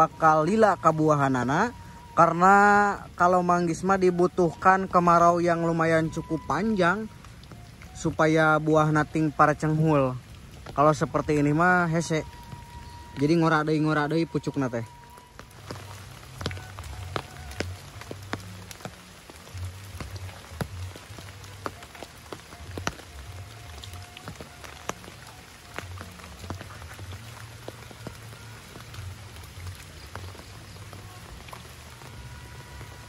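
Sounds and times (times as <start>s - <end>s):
rain pattering on foliage: 0.0s - 33.0s.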